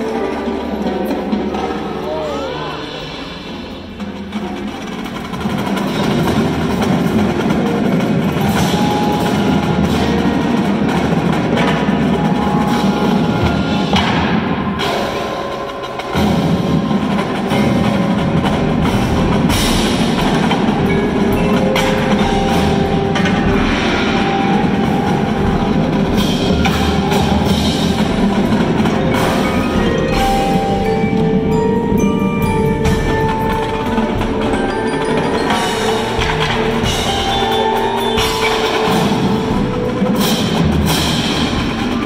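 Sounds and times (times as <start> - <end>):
drum kit: 0.0 - 42.0
mallet keyboards: 0.0 - 42.0
marching drums: 0.0 - 42.0.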